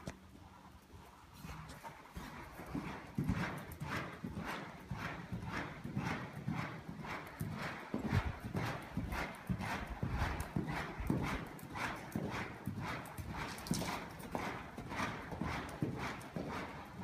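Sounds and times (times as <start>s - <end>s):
horse hoofbeats on dirt: 0.0s - 17.0s.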